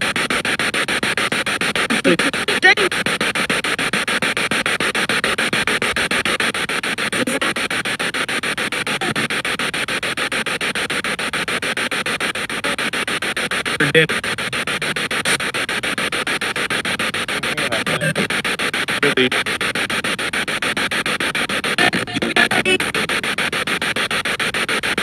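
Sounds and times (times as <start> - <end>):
pulsing static hiss: 0.0 - 25.0
radio sound fragments: 0.0 - 25.0.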